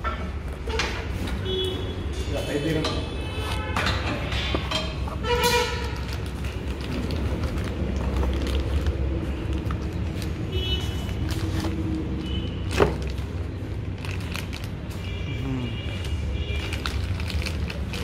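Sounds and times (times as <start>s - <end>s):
engine rumbling: 0.0s - 18.0s.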